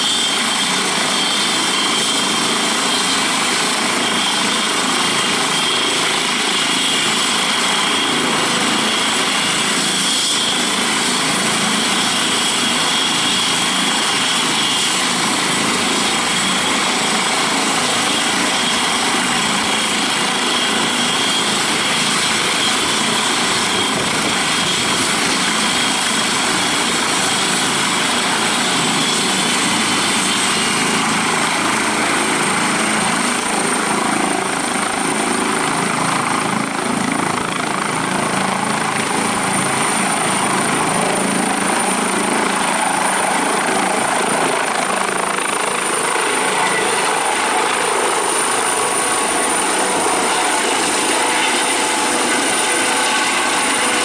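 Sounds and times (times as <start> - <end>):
helicopter rotor noise: 0.0 - 54.0
helicopter turbine whine: 0.0 - 54.0.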